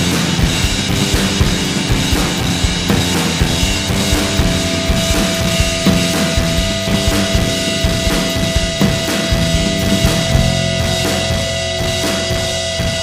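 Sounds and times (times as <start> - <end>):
drum kit steady beat: 0.0 - 13.0.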